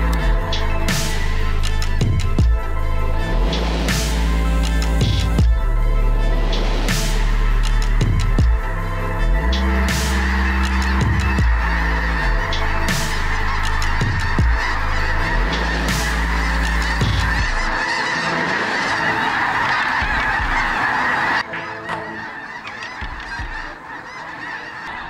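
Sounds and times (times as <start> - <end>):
flock of geese honking: 0.0 - 25.0.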